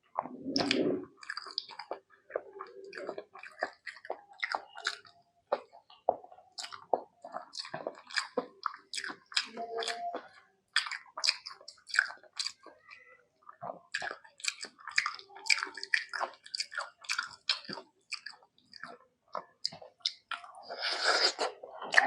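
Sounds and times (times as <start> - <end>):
chewing and mouth smacking: 0.2 - 22.0.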